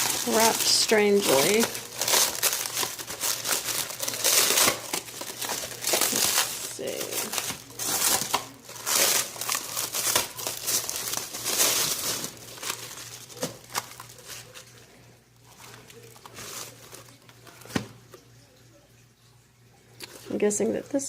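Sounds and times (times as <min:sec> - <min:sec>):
packaging wrap crinkling and tearing: 0:00.0 - 0:17.9.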